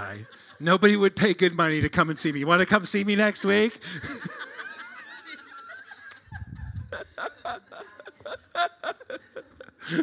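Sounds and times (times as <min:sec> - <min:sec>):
congregation laughing: 0:00.0 - 0:01.2, 0:03.0 - 0:10.0.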